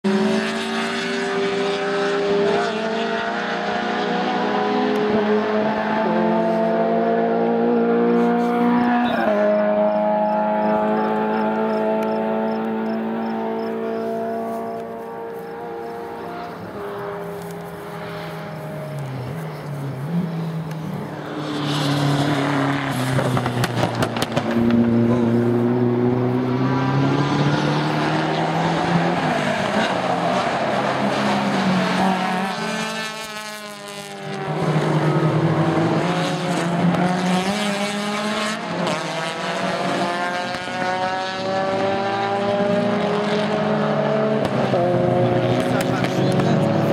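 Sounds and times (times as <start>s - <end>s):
race car engines passing: 0.0s - 46.9s.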